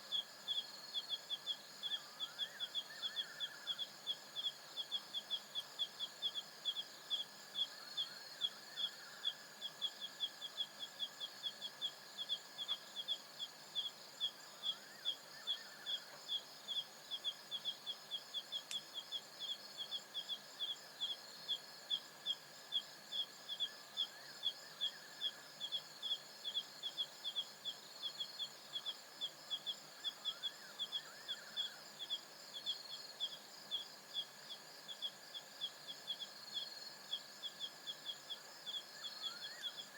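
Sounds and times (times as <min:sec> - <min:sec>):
cricket chirping: 0:00.0 - 0:39.9
crickets trilling: 0:00.0 - 0:39.9.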